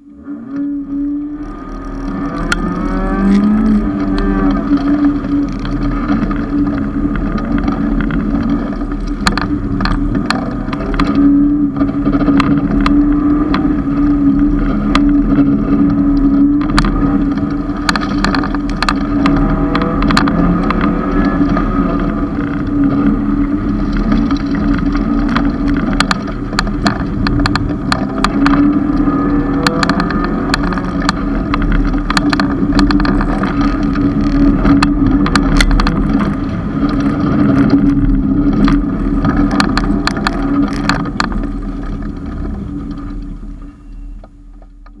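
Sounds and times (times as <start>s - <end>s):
car engine revving: 0.0s - 44.1s
sharp clicks and rattles: 0.0s - 45.0s.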